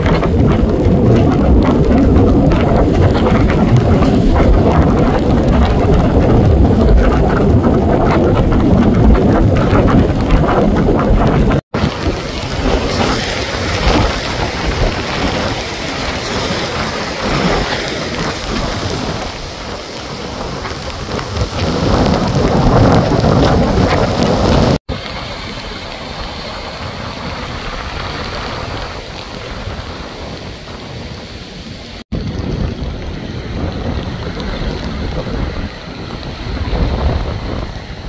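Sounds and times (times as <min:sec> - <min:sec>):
gusting wind: 0:00.0 - 0:38.0
heavy rain on a flooded street: 0:00.0 - 0:38.0
surf breaking over rocks: 0:00.0 - 0:38.0.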